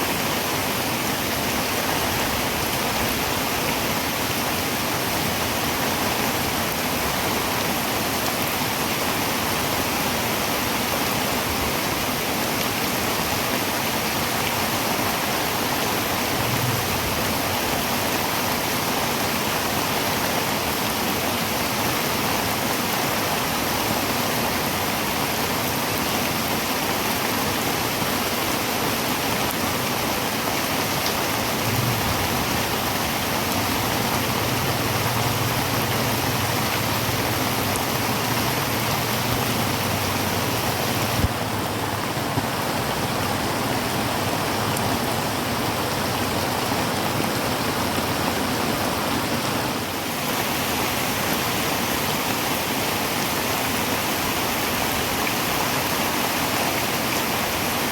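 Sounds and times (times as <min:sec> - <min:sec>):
heavy rain on a tin roof: 0:00.0 - 0:57.9.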